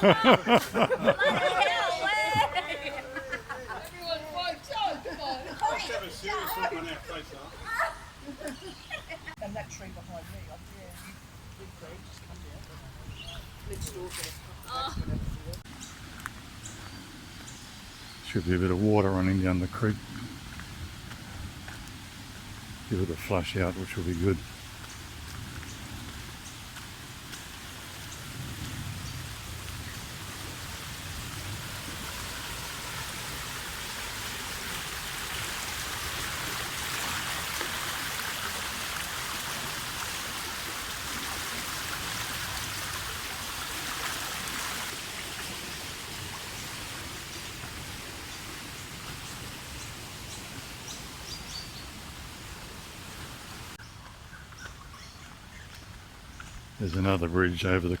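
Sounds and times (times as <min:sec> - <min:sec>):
creek water rushing: 0:00.0 - 0:54.2.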